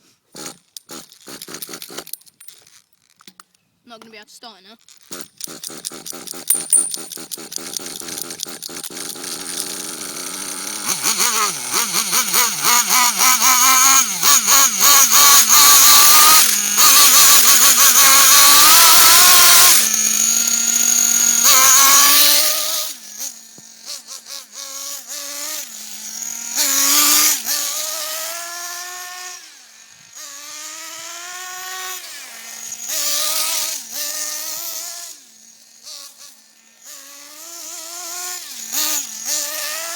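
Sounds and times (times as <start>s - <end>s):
small glow engine revving: 4.9s - 39.9s.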